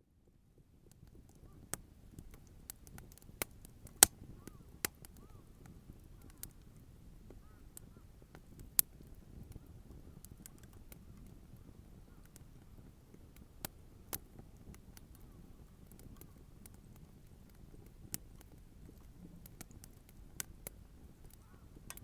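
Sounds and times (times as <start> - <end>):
bonfire crackling and popping: 0.3 - 22.0.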